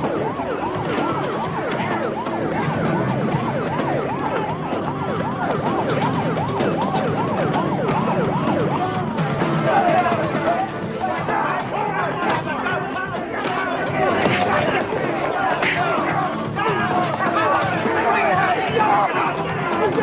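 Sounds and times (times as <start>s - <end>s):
police siren wailing: 0.0s - 20.0s.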